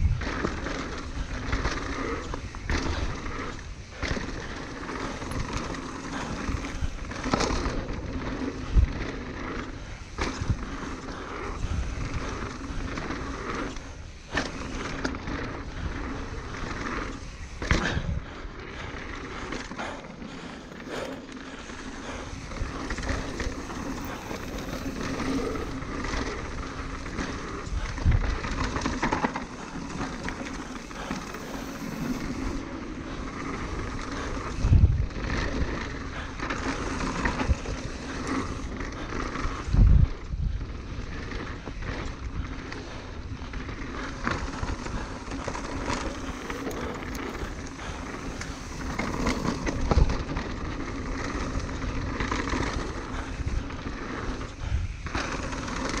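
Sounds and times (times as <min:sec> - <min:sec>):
bike tyres rolling over dirt: 0:00.0 - 0:56.0.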